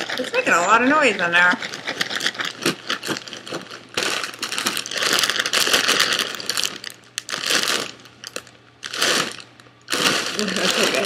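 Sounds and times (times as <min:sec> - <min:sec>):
popcorn rattling in a bag: 0:00.0 - 0:11.0
snack bag crinkling: 0:01.6 - 0:11.0.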